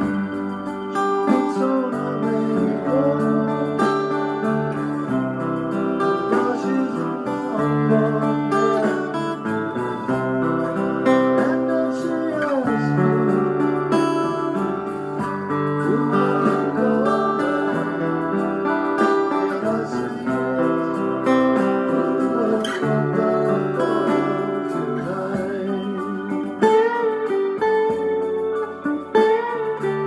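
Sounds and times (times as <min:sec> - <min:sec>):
acoustic guitar through amp: 0:00.0 - 0:30.0
music playing through amp: 0:00.0 - 0:30.0.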